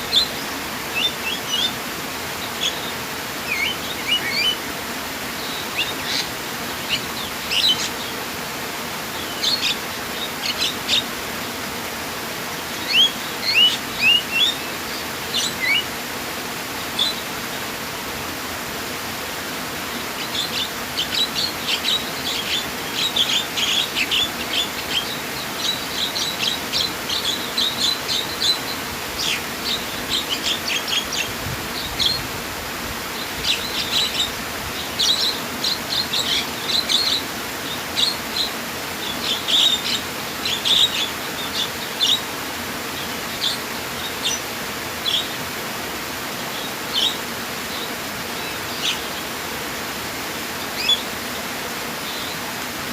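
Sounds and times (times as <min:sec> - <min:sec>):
songbirds chirping: 0:00.0 - 0:17.9, 0:18.8 - 0:52.9
flowing water: 0:00.0 - 0:52.9.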